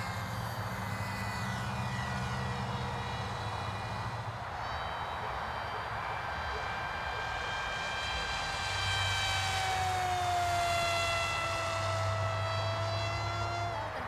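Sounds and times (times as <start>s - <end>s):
electric motor and propeller whining: 0.0s - 14.0s.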